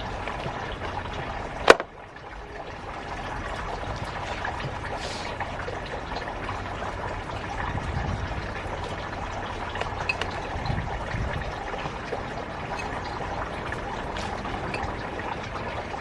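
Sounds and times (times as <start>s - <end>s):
water pouring and trickling: 0.0s - 16.0s.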